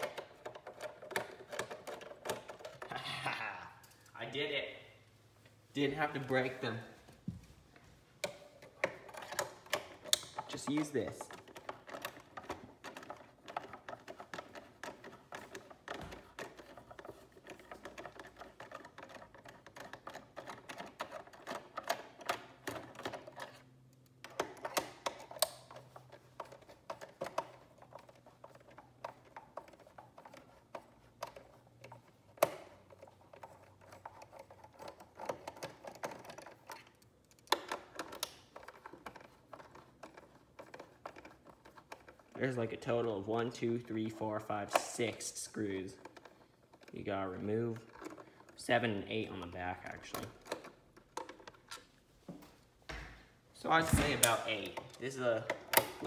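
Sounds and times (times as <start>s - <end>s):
screwdriver clicking and scraping: 0.0s - 2.9s, 8.2s - 51.9s.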